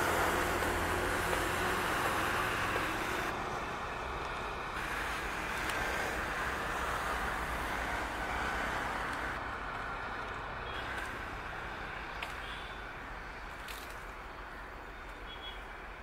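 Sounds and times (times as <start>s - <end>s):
train approaching on track: 0.0s - 13.5s.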